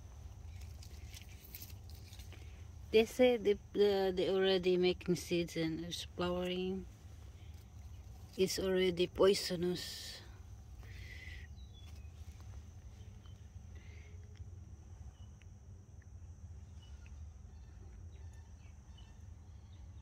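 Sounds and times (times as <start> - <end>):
faint high insect drone: 0.0 - 20.0
low constant rumble: 0.0 - 20.0.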